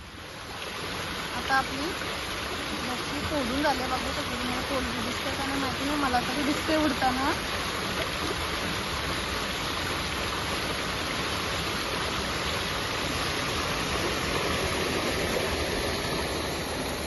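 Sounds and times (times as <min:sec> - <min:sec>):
water rushing through channel: 0:00.0 - 0:17.0.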